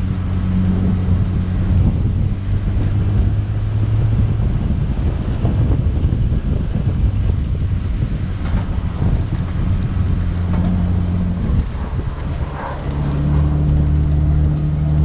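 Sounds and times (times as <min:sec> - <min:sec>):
off-road vehicle engine running: 0:00.0 - 0:15.0
tyres rumbling on gravel: 0:00.0 - 0:15.0.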